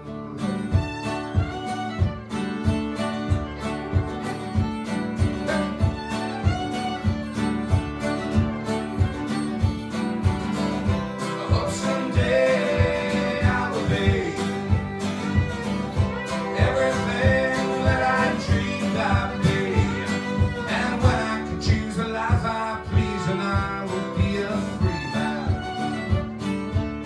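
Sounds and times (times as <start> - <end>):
instrumental melody line: 0.0 - 27.0
strummed acoustic guitar: 0.0 - 27.0.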